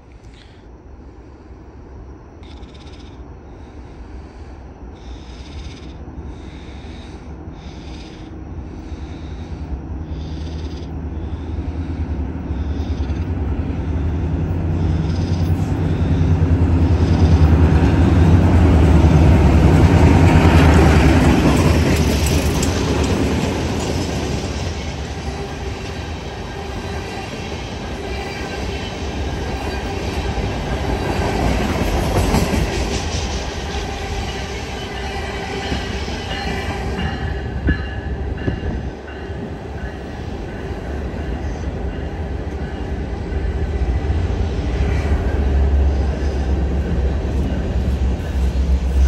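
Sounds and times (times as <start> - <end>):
diesel locomotive engine passing: 3.2 - 49.0.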